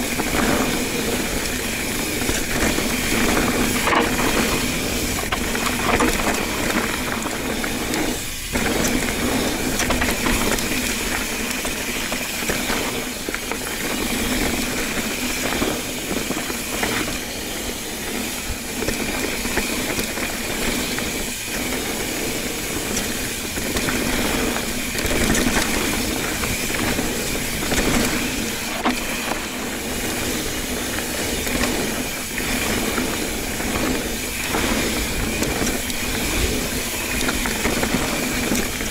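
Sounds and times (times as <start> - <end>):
bike tyre and wind noise: 0.0 - 38.9.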